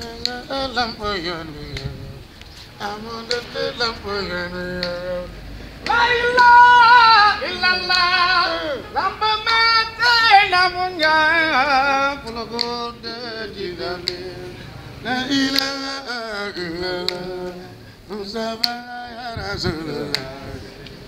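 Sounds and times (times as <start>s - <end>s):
lower voice chanting: 0.0s - 21.0s.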